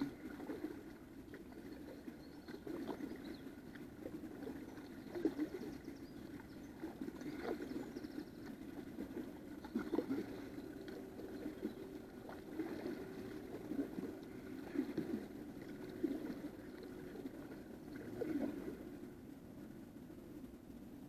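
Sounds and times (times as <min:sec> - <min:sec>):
paddle splashing in water: 0:00.0 - 0:19.1
water gurgling against hull: 0:00.0 - 0:19.7
faint steady hum: 0:00.0 - 0:21.0.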